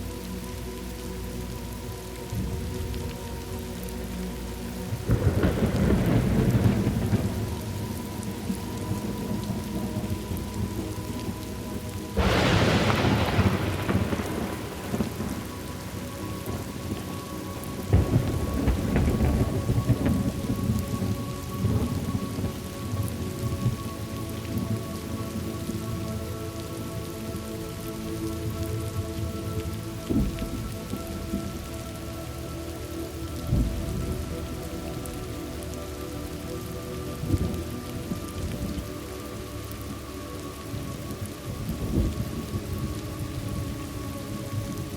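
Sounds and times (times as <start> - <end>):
steady rain: 0.0 - 44.9
thunder rumbling: 1.6 - 44.9.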